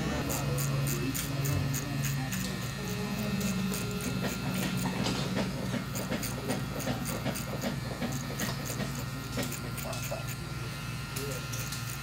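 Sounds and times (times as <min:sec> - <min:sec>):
clipper blade cutting hair: 0:00.0 - 0:12.0
electric hair clipper buzzing: 0:00.0 - 0:12.0.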